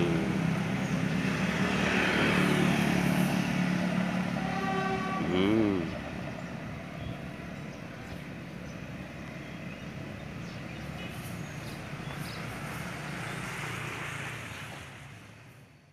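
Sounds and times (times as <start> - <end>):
traffic noise: 0.0 - 15.9
vehicle engine rumble: 0.0 - 15.9.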